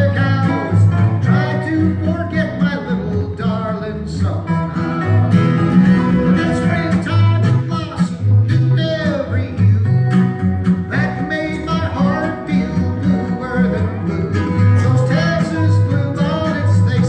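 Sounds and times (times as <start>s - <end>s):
acoustic bass guitar notes: 0.0s - 17.0s
acoustic guitar: 0.0s - 17.0s
slide guitar gliding notes: 0.0s - 17.0s.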